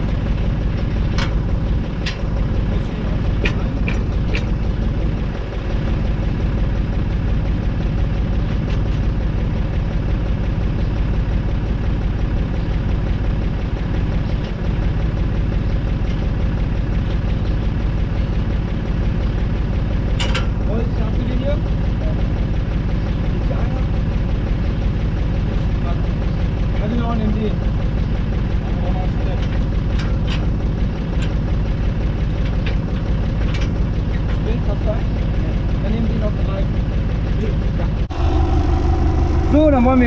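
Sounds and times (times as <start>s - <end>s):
tractor diesel engine idling: 0.0s - 40.0s.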